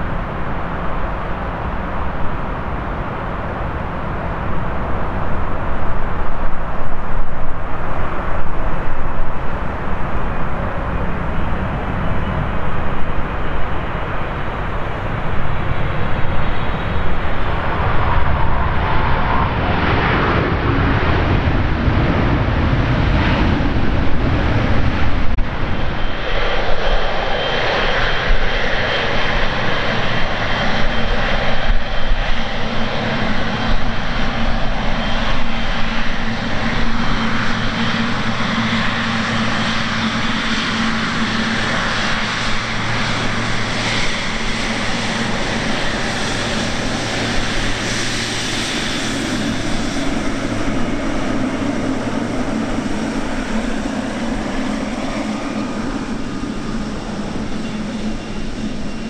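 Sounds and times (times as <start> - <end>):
jet engines at taxi power: 0.0 - 59.0.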